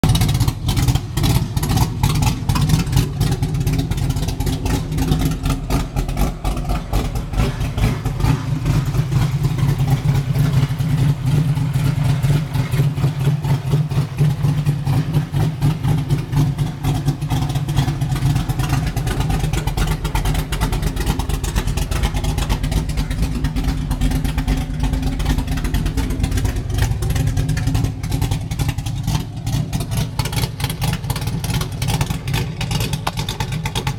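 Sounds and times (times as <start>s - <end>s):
car engine running steadily: 0.0s - 33.9s.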